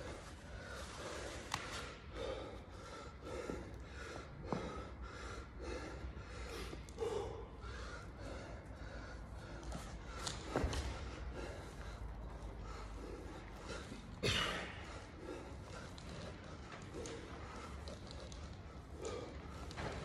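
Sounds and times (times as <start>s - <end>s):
man panting: 0.0s - 20.0s.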